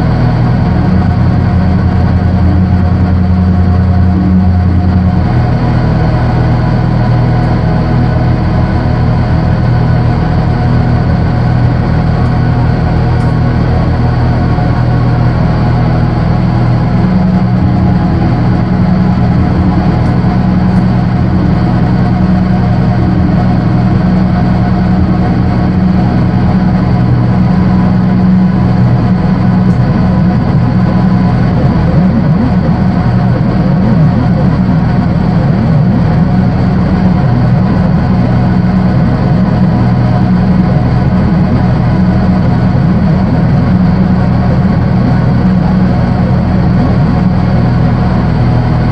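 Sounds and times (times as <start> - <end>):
electronic synthesizer drone: 0.0 - 48.9.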